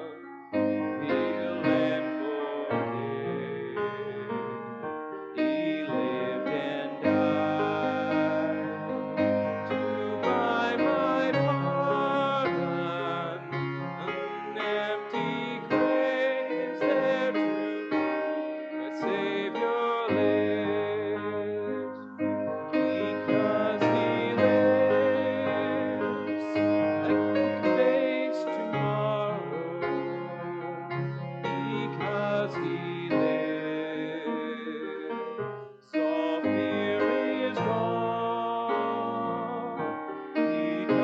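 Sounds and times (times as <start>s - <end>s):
congregation singing a hymn: 0.0s - 41.0s
piano accompaniment: 0.0s - 41.0s.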